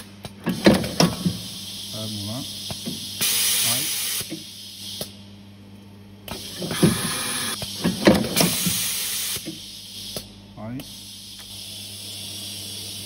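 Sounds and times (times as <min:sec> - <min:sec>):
hissing air bursts: 0:00.6 - 0:05.1, 0:06.3 - 0:10.3, 0:10.9 - 0:13.0.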